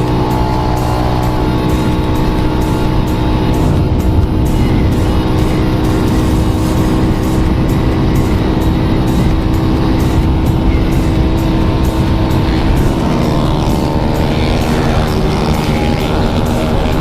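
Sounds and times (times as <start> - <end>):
heavy wind noise: 0.0 - 17.0
road rumble: 0.0 - 17.0
vehicle engine cruising: 0.0 - 17.0.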